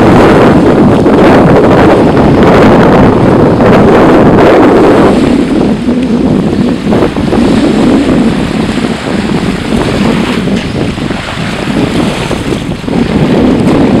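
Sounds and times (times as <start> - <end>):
small waves washing on shore: 0.0 - 14.0
wind buffeting microphone: 0.0 - 14.0.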